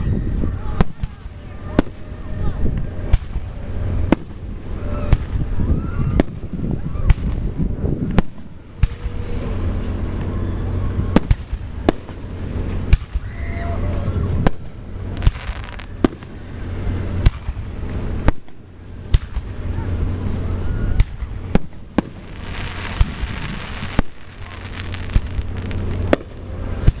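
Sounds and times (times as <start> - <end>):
firework bangs: 0.0 - 27.0
low rumble: 0.0 - 27.0.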